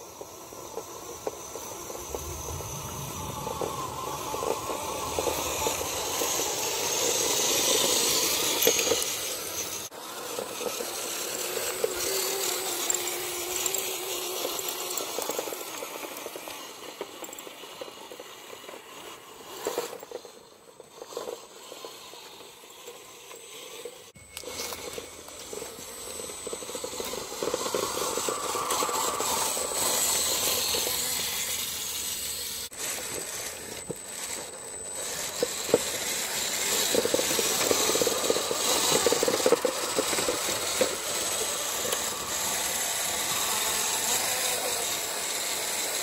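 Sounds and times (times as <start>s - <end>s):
small electric motor hum: 0.0s - 46.0s
toy truck drivetrain rattling: 0.0s - 46.0s.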